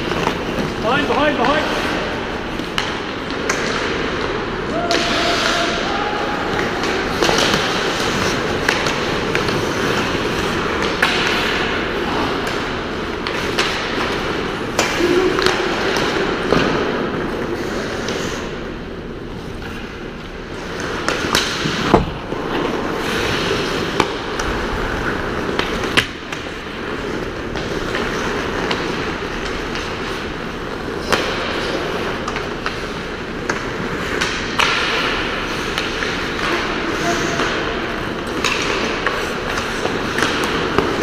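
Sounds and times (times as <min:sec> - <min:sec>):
sticks and puck clacking: 0:00.0 - 0:41.0
skate blades scraping ice: 0:06.5 - 0:18.5, 0:19.3 - 0:41.0.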